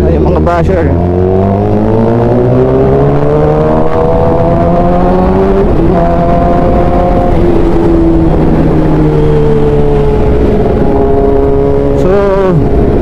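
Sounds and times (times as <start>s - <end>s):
motorcycle engine accelerating: 0.0s - 13.0s
wind noise rushing: 0.4s - 13.0s.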